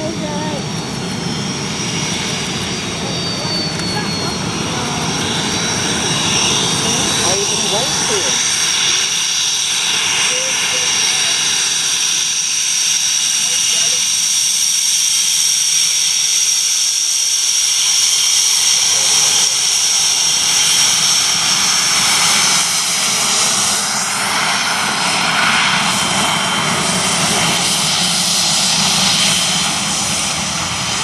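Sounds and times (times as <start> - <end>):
jet engine whine and roar: 0.0 - 31.0.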